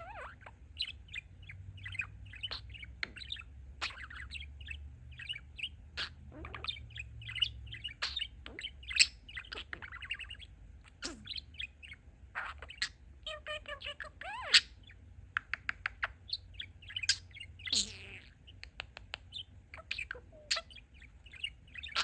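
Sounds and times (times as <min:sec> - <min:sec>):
budgerigar warbling: 0:00.0 - 0:18.6, 0:19.2 - 0:22.0.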